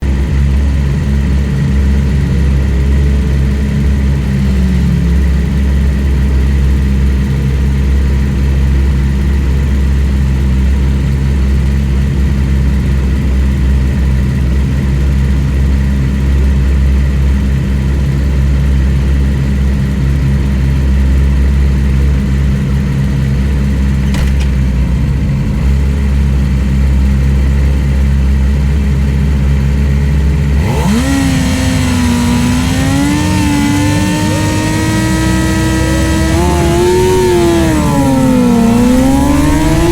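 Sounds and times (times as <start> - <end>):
motorcycle engine idling: 3.7 - 39.9.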